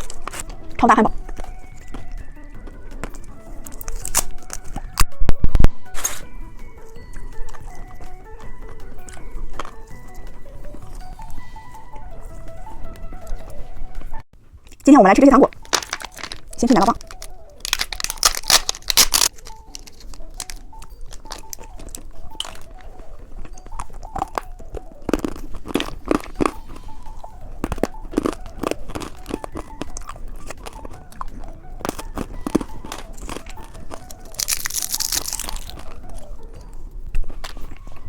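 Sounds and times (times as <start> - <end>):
crunchy biting and chewing: 0.0 - 13.5, 15.5 - 38.0.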